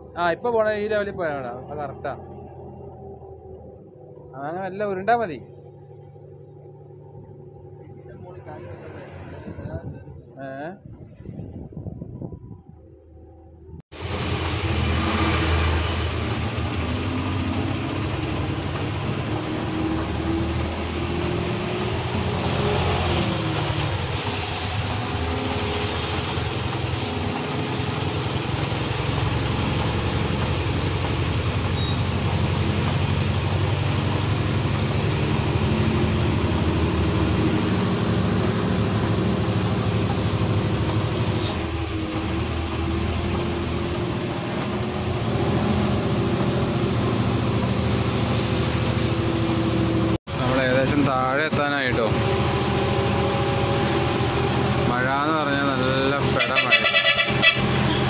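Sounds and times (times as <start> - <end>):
truck diesel engine running: 0.0 - 9.3, 13.2 - 58.0.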